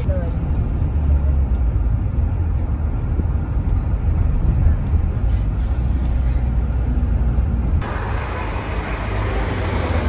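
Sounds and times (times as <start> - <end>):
road and tyre rumble in car: 0.0 - 10.0.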